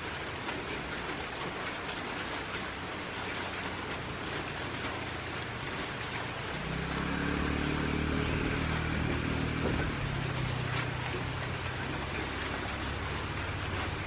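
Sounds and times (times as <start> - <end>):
engine humming: 0.3 - 14.0.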